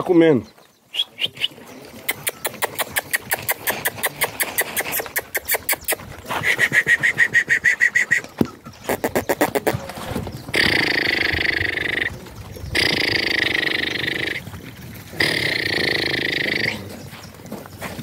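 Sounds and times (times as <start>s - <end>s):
calf bawling: 1.3s - 17.1s.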